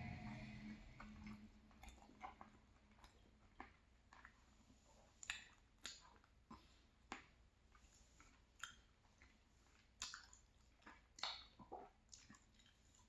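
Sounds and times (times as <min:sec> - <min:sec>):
chewing with wet lip smacks: 0:01.0 - 0:13.0.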